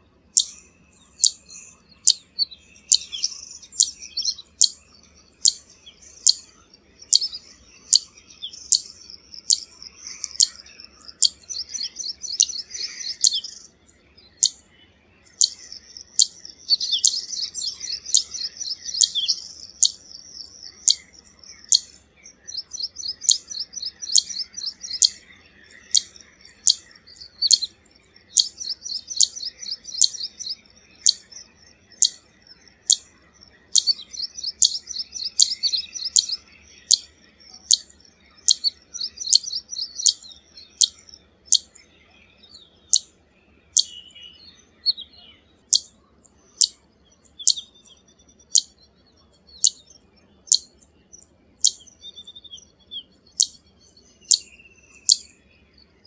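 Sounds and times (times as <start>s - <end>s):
bird singing high zit notes: 0.0s - 56.0s.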